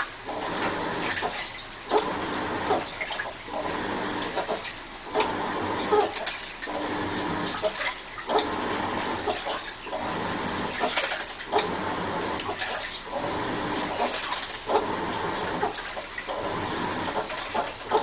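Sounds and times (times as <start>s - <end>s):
washing machine running: 0.0s - 18.0s
water sloshing: 0.0s - 18.0s.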